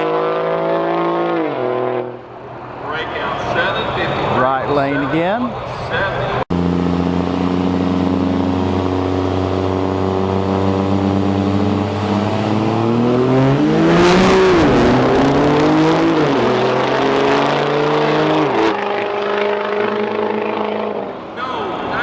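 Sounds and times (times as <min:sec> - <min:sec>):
diesel truck engines revving: 0:00.0 - 0:22.0.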